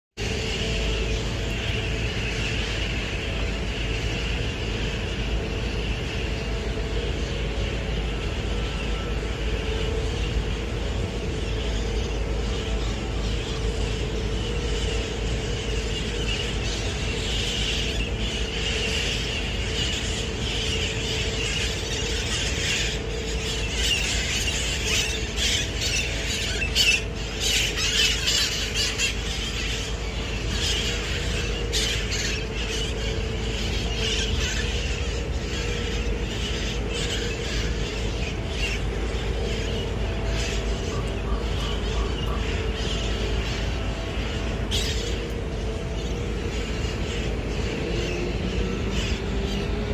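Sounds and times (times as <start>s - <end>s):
parakeets screeching and squawking: 0.2s - 49.9s.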